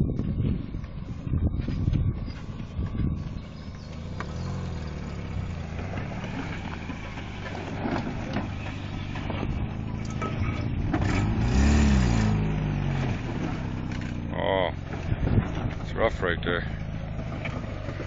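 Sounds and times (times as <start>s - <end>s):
tires spinning in mud: 0.0s - 18.0s
pickup engine revving: 3.3s - 18.0s.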